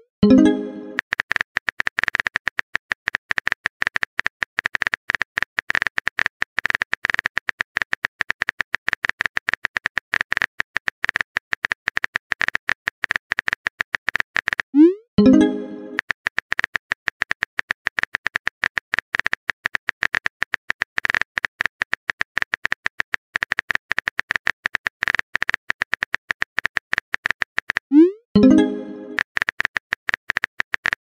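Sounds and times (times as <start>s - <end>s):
phone keyboard typing clicks: 0.2s - 31.0s.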